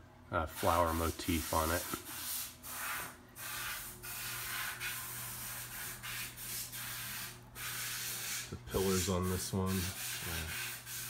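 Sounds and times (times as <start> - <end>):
rubbing scraping strokes: 0.4 - 11.0.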